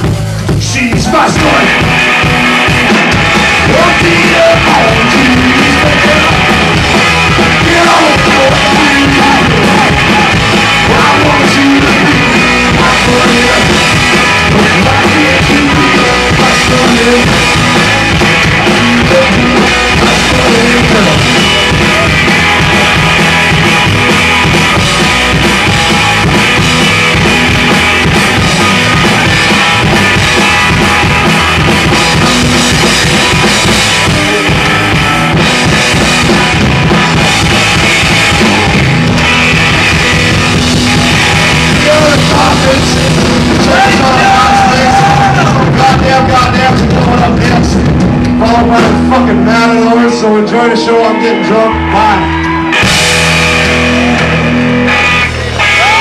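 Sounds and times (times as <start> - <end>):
slapped upright bass: 0.0 - 49.2
drum kit: 0.0 - 56.0
electric guitar: 0.0 - 56.0.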